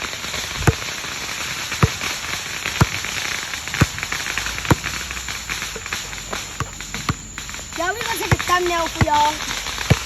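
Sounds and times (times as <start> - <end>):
distant fireworks bangs: 0.0 - 10.0
steady hiss: 0.0 - 10.0.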